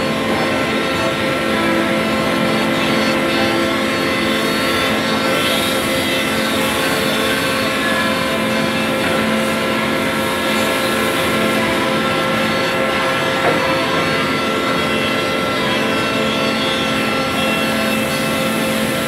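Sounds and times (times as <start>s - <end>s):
continuous machine noise: 0.0s - 19.0s
machine spindles whining: 0.0s - 19.0s.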